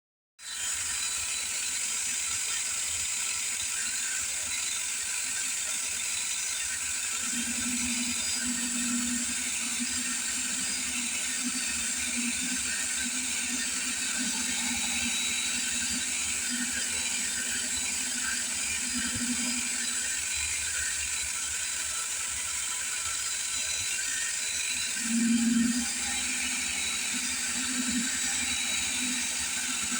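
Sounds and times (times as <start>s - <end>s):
drill motor whining: 0.4s - 29.9s.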